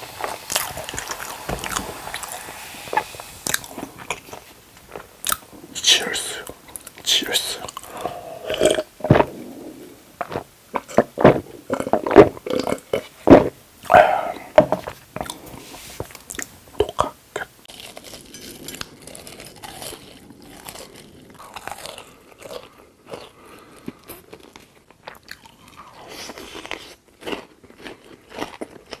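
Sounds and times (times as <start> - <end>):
crunching and chewing food: 0.0 - 29.0.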